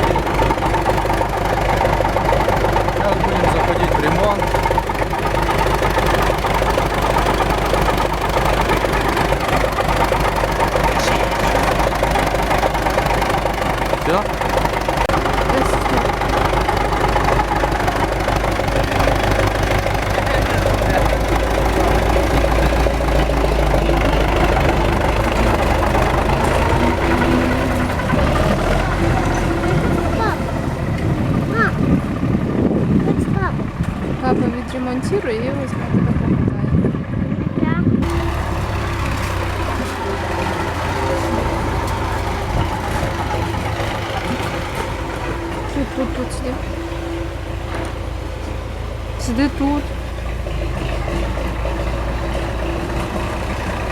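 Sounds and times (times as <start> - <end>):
drivetrain humming: 0.0 - 53.9
tractor diesel engine running: 0.0 - 53.9.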